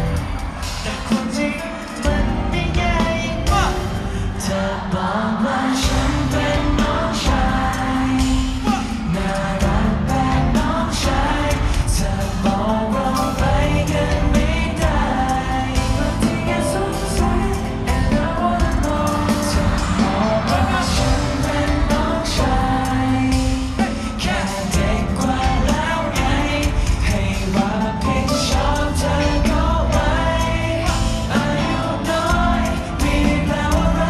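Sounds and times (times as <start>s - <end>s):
pop music beat: 0.0s - 34.0s
young men singing: 0.0s - 34.0s.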